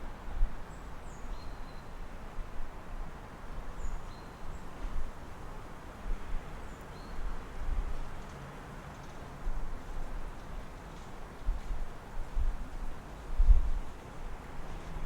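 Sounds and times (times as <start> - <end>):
city background hum: 0.0 - 15.0.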